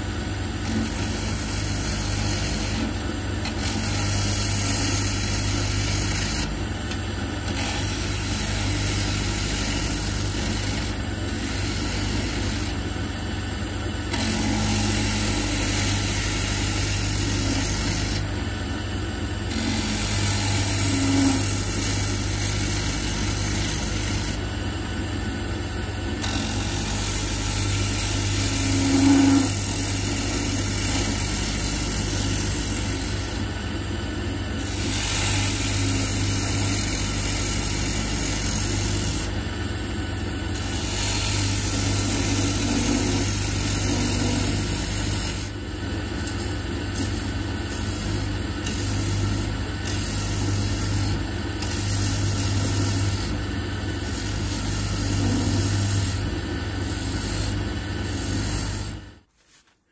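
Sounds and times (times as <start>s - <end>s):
wood lathe running: 0.0s - 25.4s, 26.1s - 33.8s, 34.4s - 59.2s
gouge cutting wood hiss: 0.6s - 6.6s, 7.5s - 12.8s, 14.1s - 18.3s, 19.5s - 24.5s, 26.2s - 33.4s, 34.6s - 39.4s, 40.6s - 45.6s, 46.2s - 56.2s, 56.8s - 59.0s.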